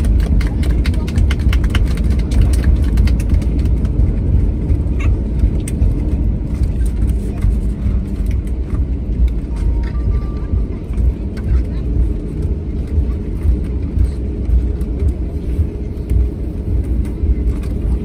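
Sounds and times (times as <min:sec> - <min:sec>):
aircraft cabin low rumble: 0:00.0 - 0:18.0.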